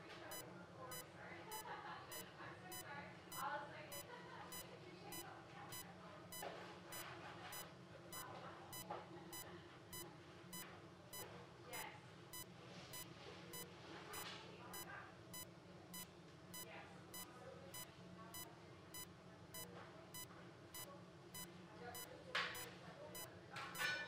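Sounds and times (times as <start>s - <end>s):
patient monitor beeps: 0.0s - 11.3s, 12.3s - 24.0s.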